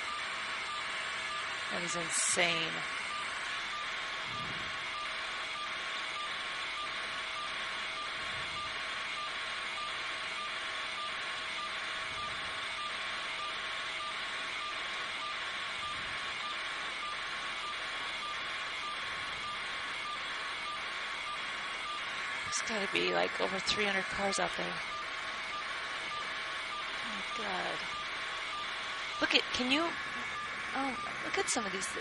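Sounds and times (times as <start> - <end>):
helicopter cabin drone: 0.0 - 32.0.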